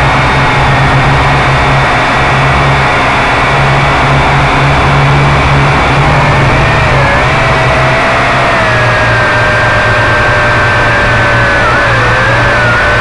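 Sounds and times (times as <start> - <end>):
drone motors whining: 0.0 - 13.0
loud rushing noise: 0.0 - 13.0.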